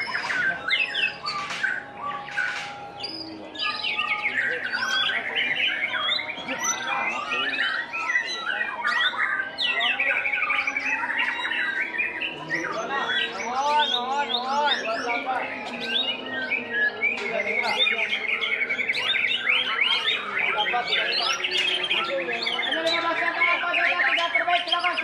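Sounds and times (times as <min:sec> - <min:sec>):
bird singing whistles and trills: 0:00.0 - 0:25.0.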